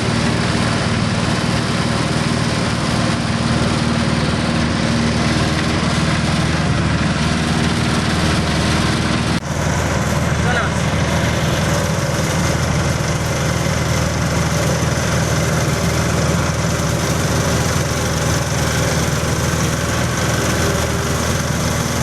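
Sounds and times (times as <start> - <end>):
shelling machine drone: 0.0 - 22.0.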